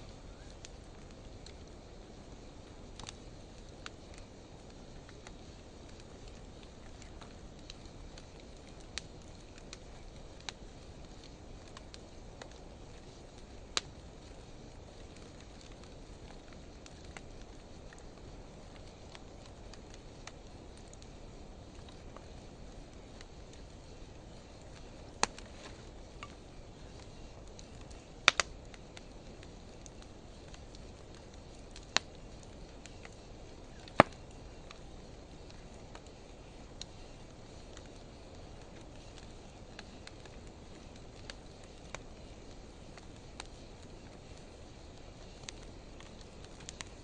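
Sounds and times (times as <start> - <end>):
fire crackling pops: 0.0 - 47.0
wood fire burning: 0.0 - 47.0
faint small ticks: 2.5 - 47.0.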